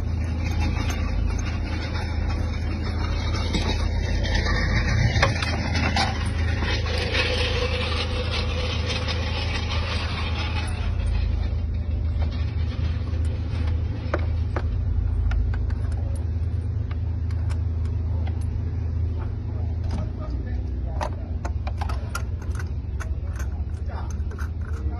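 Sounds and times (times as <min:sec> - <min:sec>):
vehicle engine idling: 0:00.0 - 0:24.9.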